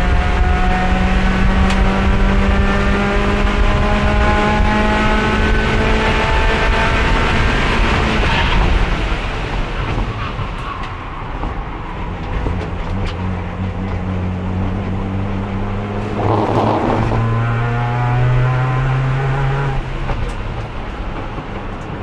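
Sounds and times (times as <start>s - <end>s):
racing car engine: 0.0s - 9.8s, 11.6s - 22.0s.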